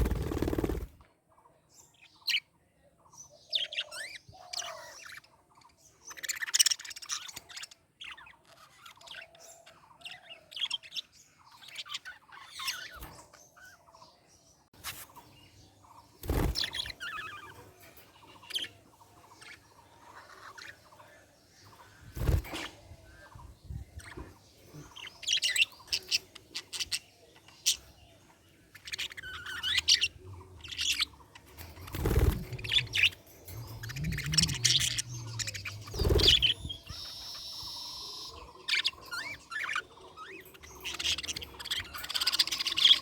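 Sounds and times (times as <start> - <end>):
budgerigars chirping and warbling: 0.0 - 43.0.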